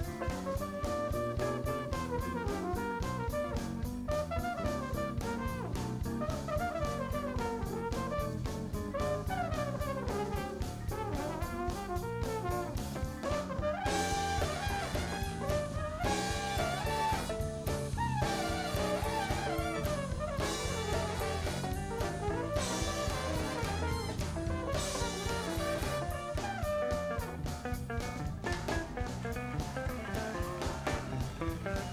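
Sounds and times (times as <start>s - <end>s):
band playing held chords: 0.0s - 31.9s
drum kit beat: 0.0s - 31.9s.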